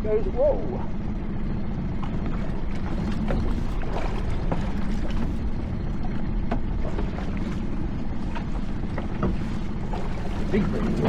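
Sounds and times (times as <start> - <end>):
sea noise: 0.0 - 11.0
wind: 0.0 - 11.0.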